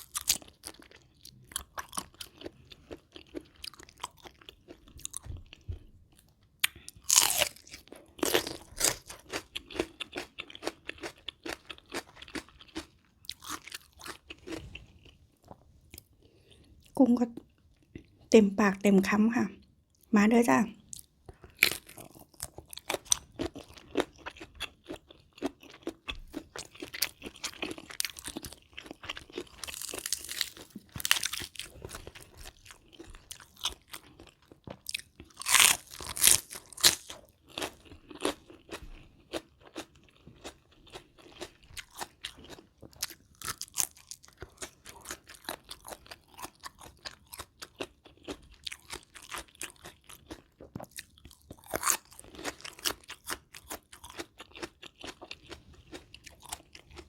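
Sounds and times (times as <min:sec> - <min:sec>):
chewing and crunching food: 0:00.0 - 0:20.1, 0:20.8 - 0:57.0.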